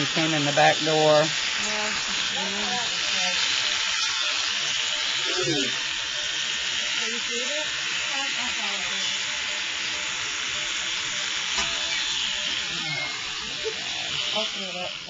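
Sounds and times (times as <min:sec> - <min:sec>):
electric clippers running: 0:00.0 - 0:15.0.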